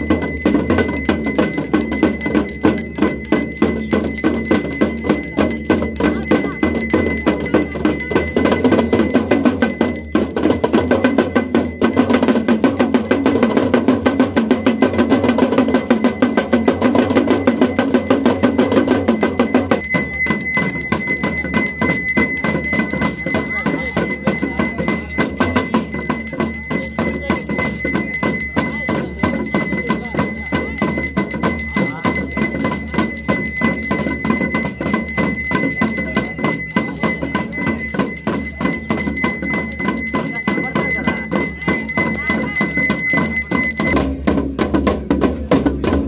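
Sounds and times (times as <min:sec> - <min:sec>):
temple bells ringing: 0:00.0 - 0:44.0
fast hand drumming: 0:00.0 - 0:46.0.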